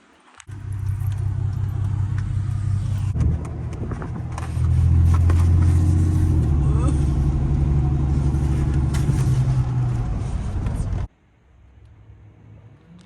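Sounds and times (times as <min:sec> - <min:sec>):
car engine rumbling: 0:00.5 - 0:13.0.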